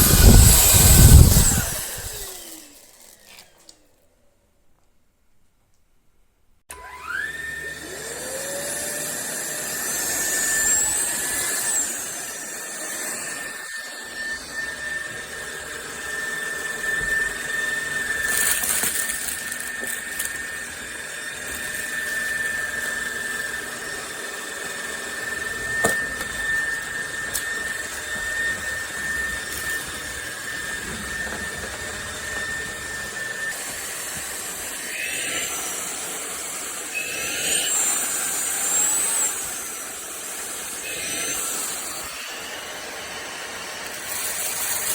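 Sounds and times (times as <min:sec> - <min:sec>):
vacuum cleaner motor whine: 0:00.0 - 0:03.8, 0:06.7 - 0:44.9.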